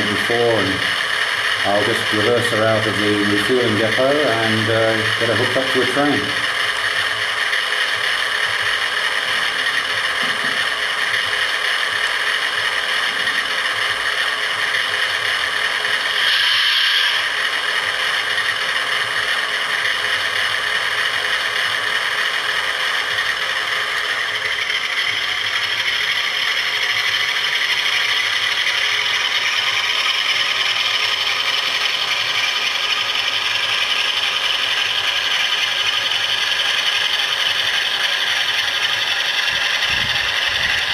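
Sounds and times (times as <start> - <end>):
diesel engine sound from speaker: 0.0 - 40.9
model motor and gears whirring: 0.0 - 40.9.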